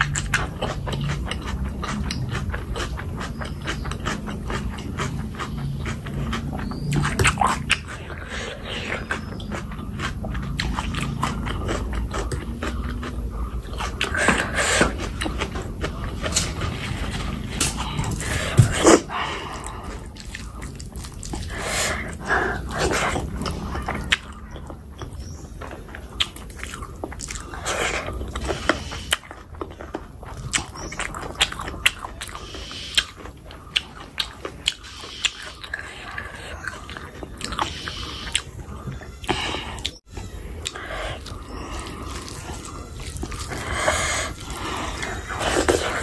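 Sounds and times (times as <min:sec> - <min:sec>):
close chewing with wet mouth clicks: 0:00.0 - 0:46.0.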